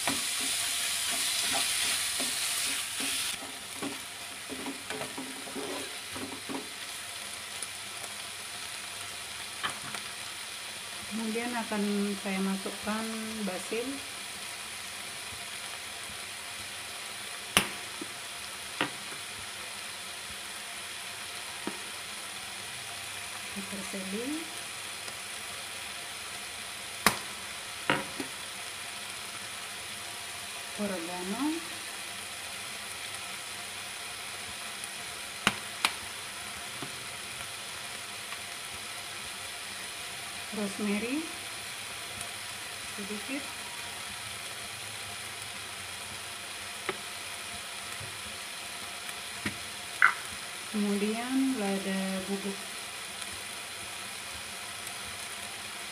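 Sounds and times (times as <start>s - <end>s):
meat and onion sizzling in a pan: 0.0s - 55.9s.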